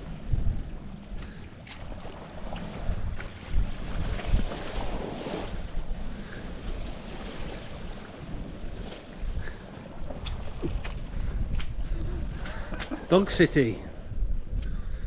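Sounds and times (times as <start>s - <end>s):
sea washing: 0.0s - 14.2s
wind buffeting microphone: 0.0s - 15.0s.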